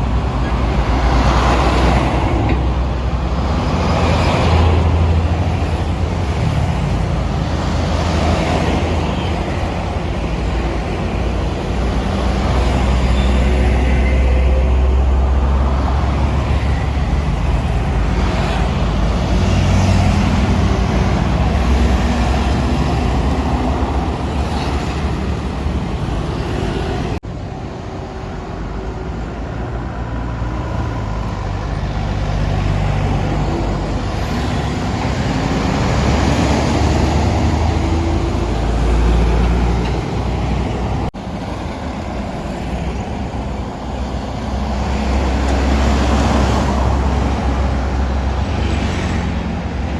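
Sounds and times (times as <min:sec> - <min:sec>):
diesel truck engine drone: 0:00.0 - 0:49.9
tyre and road noise: 0:00.0 - 0:49.9.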